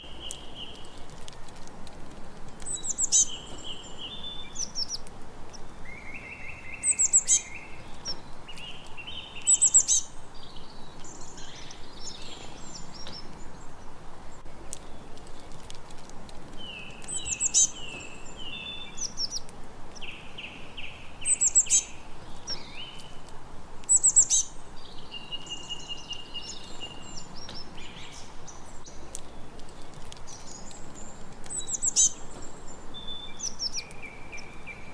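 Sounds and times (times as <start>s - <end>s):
faint background hiss: 0.0s - 34.9s
songbirds singing: 0.0s - 34.9s.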